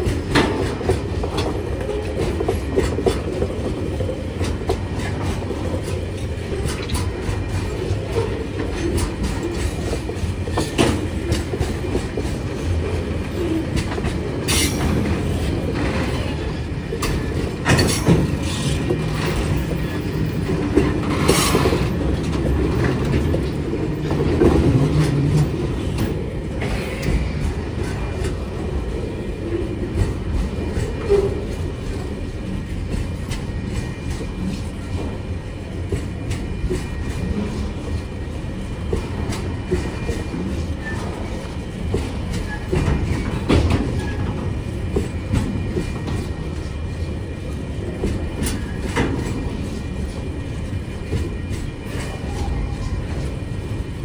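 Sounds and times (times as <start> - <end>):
freight train wheels rumbling: 0.0 - 54.0
sharp loud train noises: 0.0 - 54.0.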